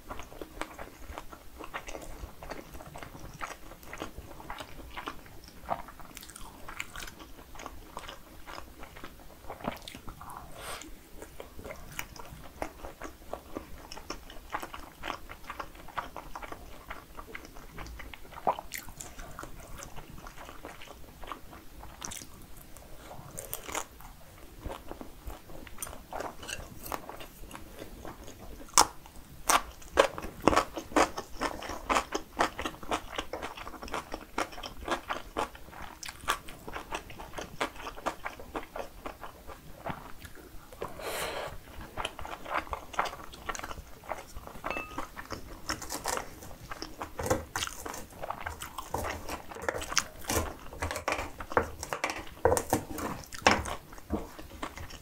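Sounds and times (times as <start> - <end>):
chewing sausage with crunching casing: 0.0 - 55.0.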